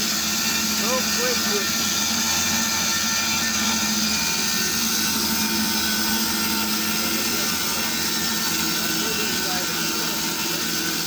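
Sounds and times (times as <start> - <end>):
high saw hiss: 0.0 - 11.0
sawmill machine drone: 0.0 - 11.0.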